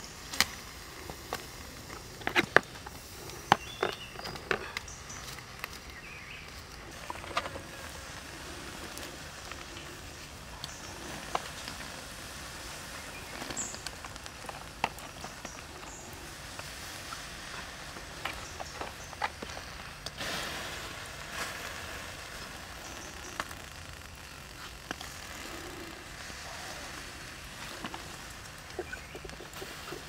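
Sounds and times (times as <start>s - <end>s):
snails grilling on embers: 0.0s - 30.0s.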